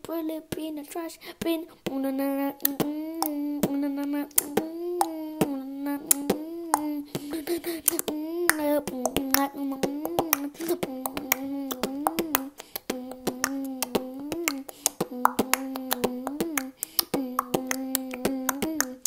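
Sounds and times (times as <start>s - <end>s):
beatboxing clicks and hits: 2.6s - 19.0s.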